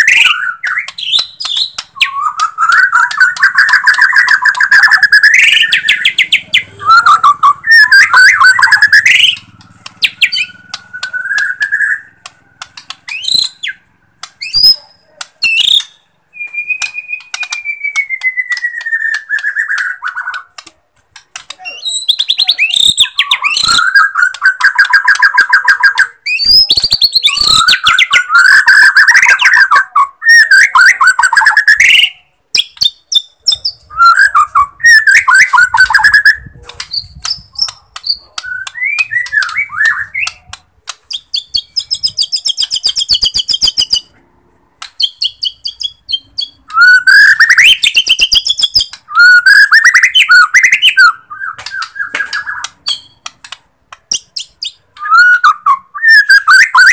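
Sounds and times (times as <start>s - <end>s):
bird singing varied song: 0.0s - 20.6s, 21.2s - 44.2s, 44.8s - 56.9s.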